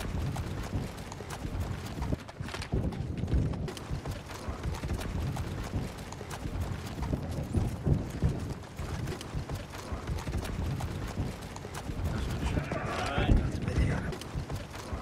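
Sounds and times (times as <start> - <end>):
hooves plodding through mud: 0.0 - 15.0.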